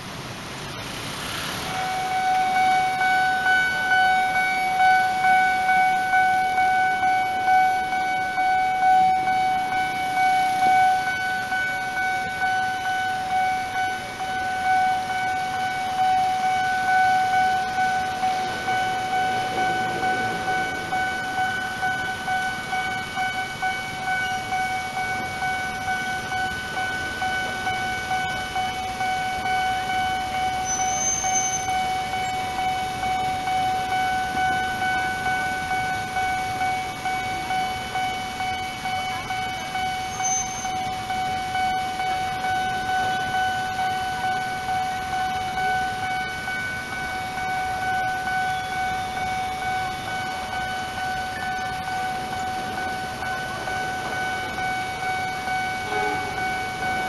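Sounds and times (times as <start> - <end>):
level crossing alarm ringing: 0.0 - 57.0.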